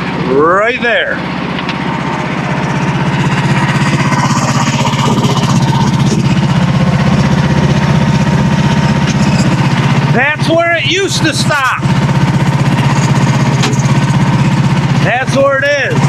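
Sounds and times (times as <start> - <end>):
small gasoline engine running: 0.0 - 16.0.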